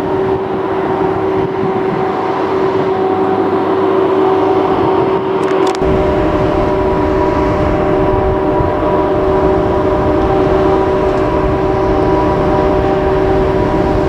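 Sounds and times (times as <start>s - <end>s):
steady multi-pitch whine: 0.0s - 14.0s
train wheels rumbling on rail: 0.0s - 14.0s.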